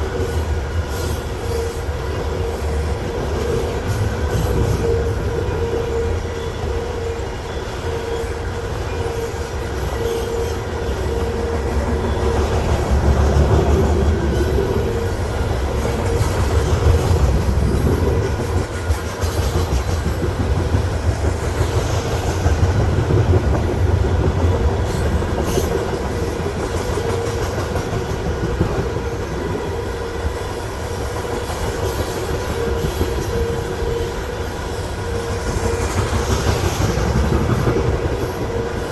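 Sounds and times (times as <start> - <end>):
steel wheels rumbling on rail: 0.0 - 38.9.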